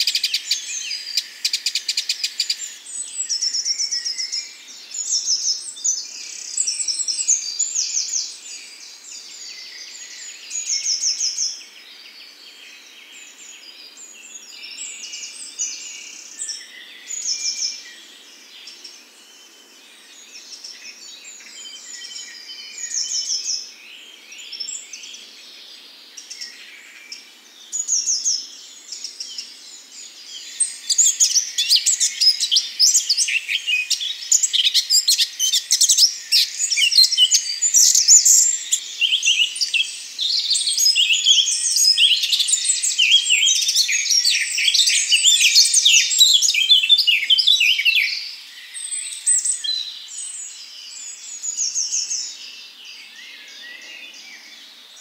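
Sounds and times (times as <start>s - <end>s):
bird rapid warbling song: 0.0s - 55.0s
birdsong: 0.0s - 55.0s.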